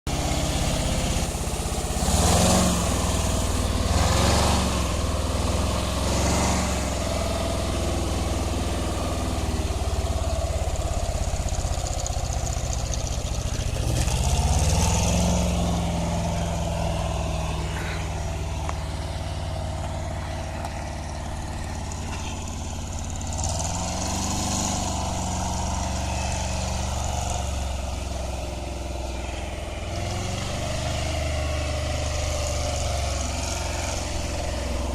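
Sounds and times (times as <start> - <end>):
engine revving: 0.1 - 34.9.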